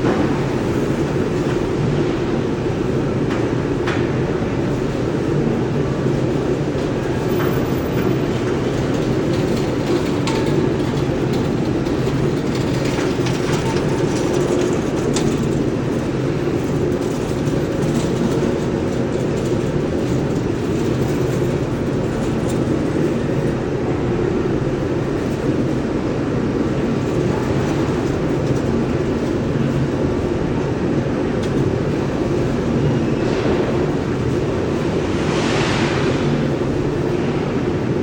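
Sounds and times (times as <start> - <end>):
industrial furnace rumble: 0.0 - 38.0.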